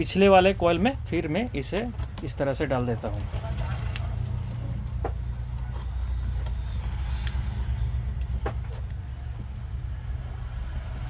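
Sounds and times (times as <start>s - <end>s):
low background rumble: 0.0s - 11.0s
wire and paper clicks and rustles: 0.0s - 11.0s.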